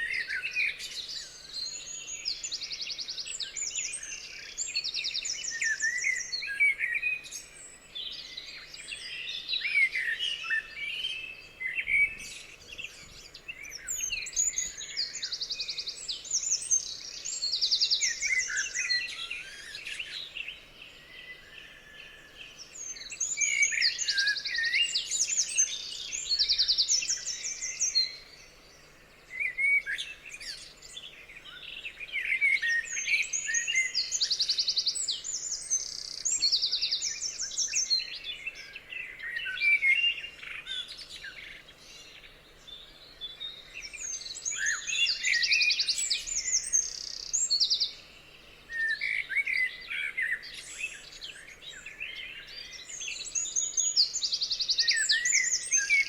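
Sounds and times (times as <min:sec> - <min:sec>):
whistled bird chirps: 0:00.0 - 0:28.4, 0:29.3 - 0:48.0, 0:48.7 - 0:56.0
songbirds singing: 0:00.0 - 0:56.0.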